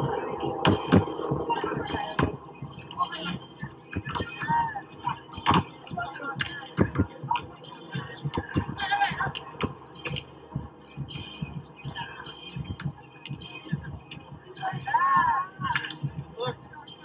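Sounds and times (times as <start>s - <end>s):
voices around the court: 0.0s - 17.0s.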